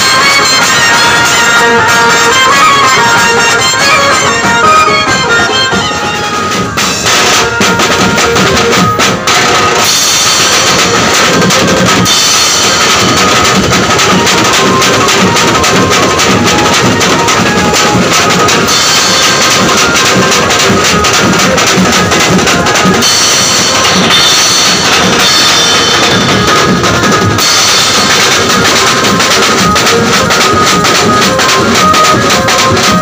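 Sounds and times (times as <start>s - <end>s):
cymbals: 0.0s - 33.0s
dhol drums: 0.0s - 33.0s.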